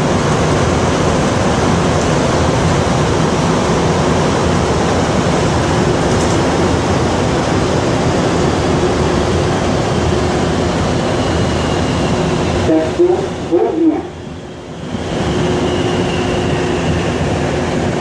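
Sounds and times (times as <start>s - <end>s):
metro train rushing in tunnel: 0.0s - 18.0s.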